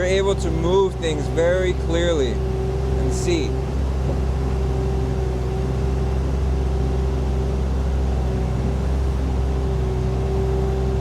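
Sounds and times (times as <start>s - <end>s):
constant whine: 0.0s - 11.0s
diesel engine running: 0.0s - 11.0s.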